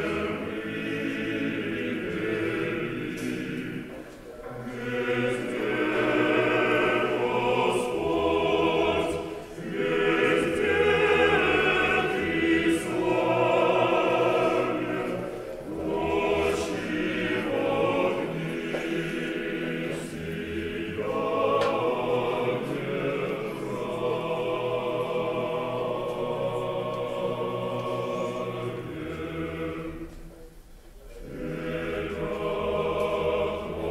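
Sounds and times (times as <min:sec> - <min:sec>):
church choir chanting: 0:00.0 - 0:30.5, 0:31.2 - 0:33.9.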